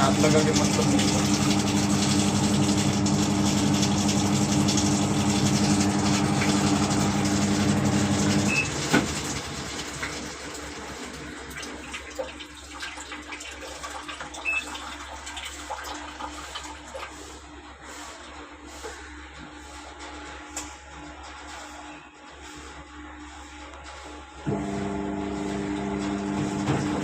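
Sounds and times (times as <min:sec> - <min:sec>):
washing machine running water: 0:00.0 - 0:27.0.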